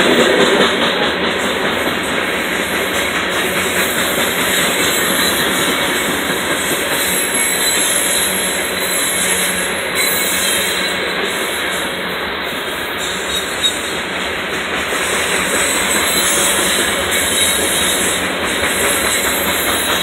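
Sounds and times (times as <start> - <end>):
freight train wheels on rail: 0.0 - 20.0.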